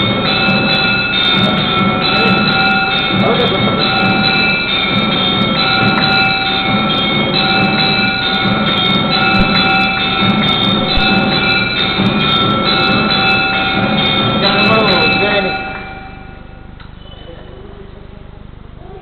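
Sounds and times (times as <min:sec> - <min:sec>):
temple bells clanging: 0:00.0 - 0:16.8.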